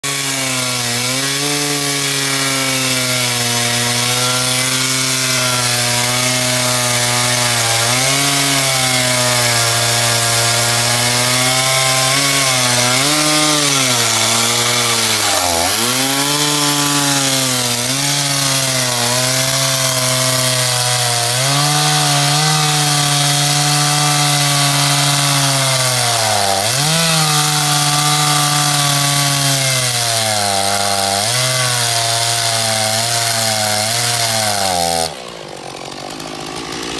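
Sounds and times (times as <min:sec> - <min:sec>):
chainsaw running at high revs: 0:00.0 - 0:36.9.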